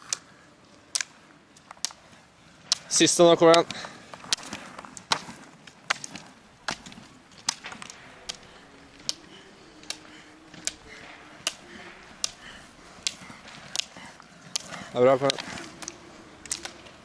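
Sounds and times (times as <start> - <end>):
ski pole tips clicking on asphalt: 0.0 - 17.0.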